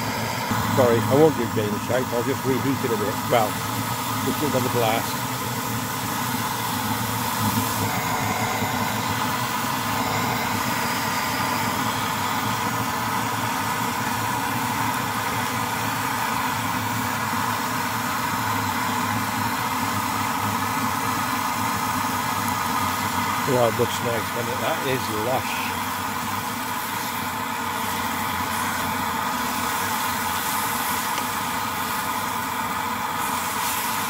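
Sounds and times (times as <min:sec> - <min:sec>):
pressure stove burner roaring: 0:00.0 - 0:34.0.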